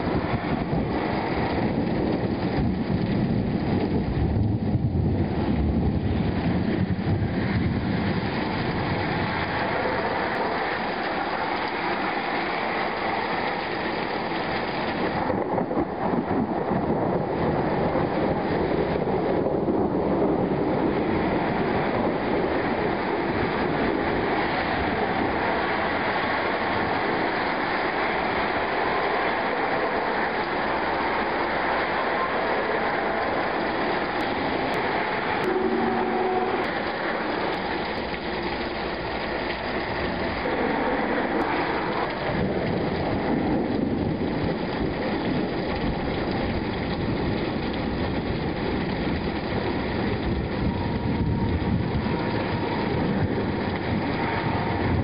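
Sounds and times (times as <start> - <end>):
heavy rain: 0.0 - 55.0
low rumble of thunder: 0.0 - 55.0.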